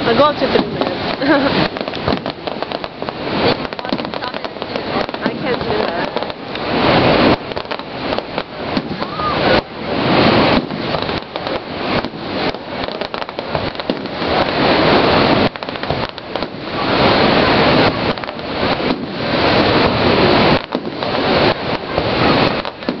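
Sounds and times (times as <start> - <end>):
fireworks crackling and popping: 0.0 - 23.0.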